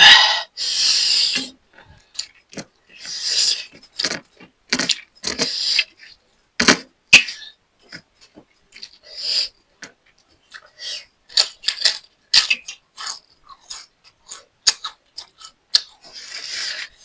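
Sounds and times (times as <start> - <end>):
chewing and handling food: 1.7 - 6.8, 7.8 - 17.0.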